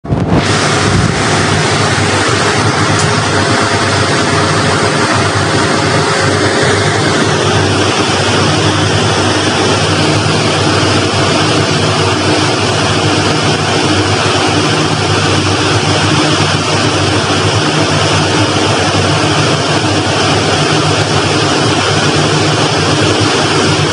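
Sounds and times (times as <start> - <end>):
engine and deck machinery drone: 0.0 - 23.9
sea water rushing and splashing: 0.3 - 21.1.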